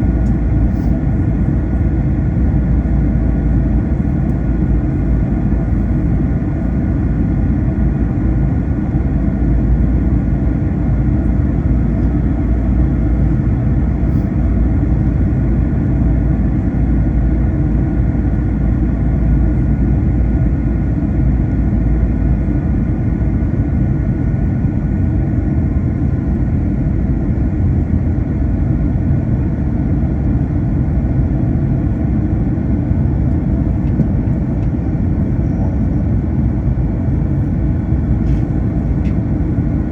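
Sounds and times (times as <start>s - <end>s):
airliner engine rumble: 0.0s - 39.9s.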